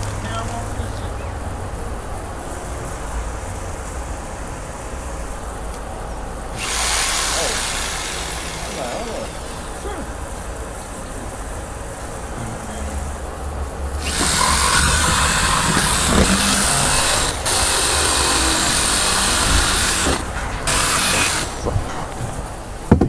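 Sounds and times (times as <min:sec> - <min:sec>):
handheld power tool running: 0:02.7 - 0:12.4, 0:13.9 - 0:22.9.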